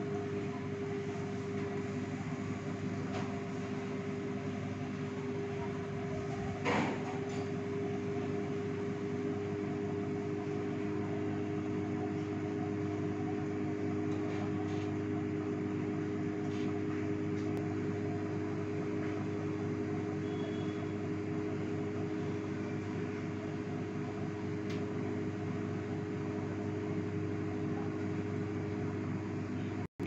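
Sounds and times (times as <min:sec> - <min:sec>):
microwave oven humming: 0:00.0 - 0:29.9.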